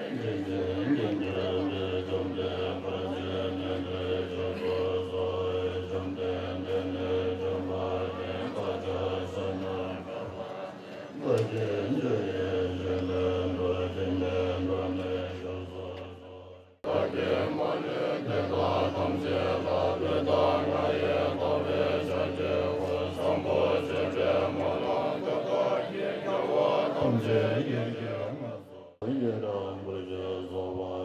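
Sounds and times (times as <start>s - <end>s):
monks chanting in unison: 0.0s - 31.0s.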